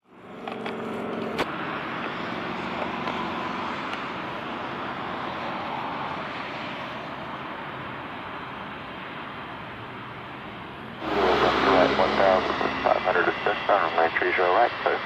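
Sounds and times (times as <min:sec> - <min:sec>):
jet engines rumbling: 0:00.1 - 0:15.0.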